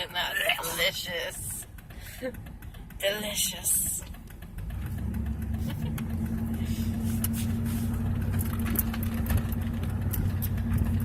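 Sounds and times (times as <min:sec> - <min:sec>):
engine hum inside car: 0:00.0 - 0:11.0
road rumble: 0:00.0 - 0:11.0.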